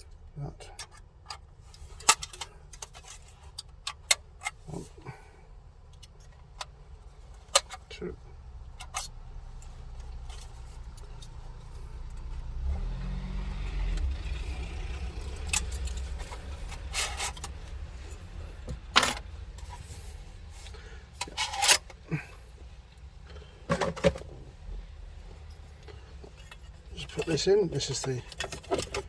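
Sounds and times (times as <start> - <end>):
car radio parts clattering: 0.0 - 12.7, 13.4 - 29.0
low steady rumble: 0.0 - 29.0.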